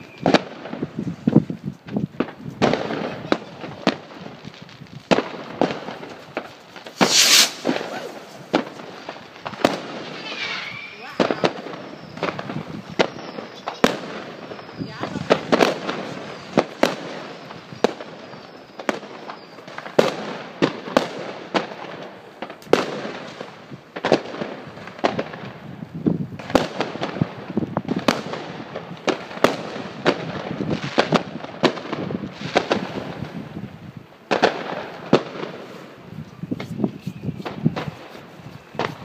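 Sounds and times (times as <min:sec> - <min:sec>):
distant fireworks crackling: 0:00.0 - 0:39.0
firecrackers banging: 0:00.0 - 0:39.0.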